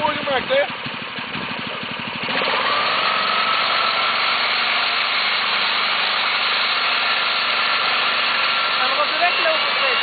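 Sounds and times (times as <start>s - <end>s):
small tractor engine: 0.0s - 10.0s.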